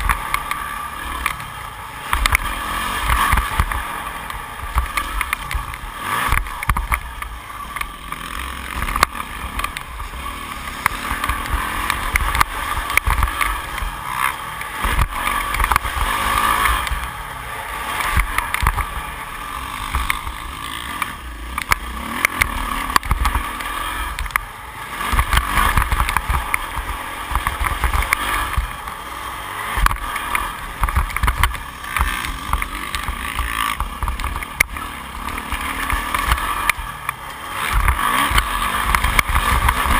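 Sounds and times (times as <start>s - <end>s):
motocross bike engine: 0.0s - 39.9s.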